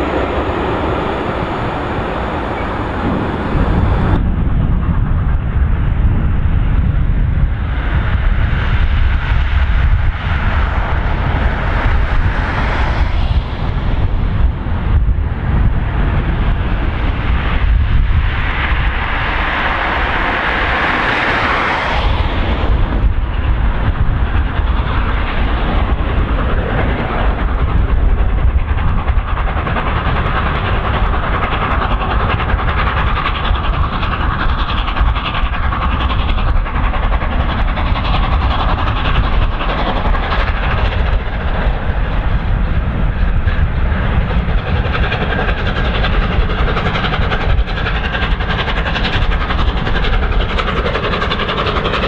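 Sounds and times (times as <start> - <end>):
coaches running on rails: 0.0 - 52.0
steam locomotive exhaust beat: 0.0 - 52.0.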